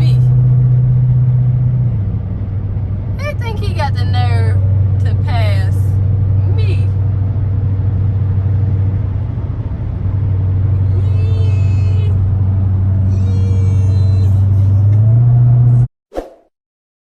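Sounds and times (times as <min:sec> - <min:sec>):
car engine drone from cabin: 0:00.0 - 0:15.9.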